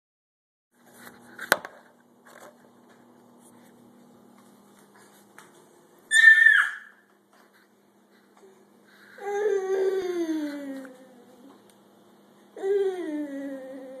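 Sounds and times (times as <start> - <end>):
faint steady hum: 0.8 - 14.0.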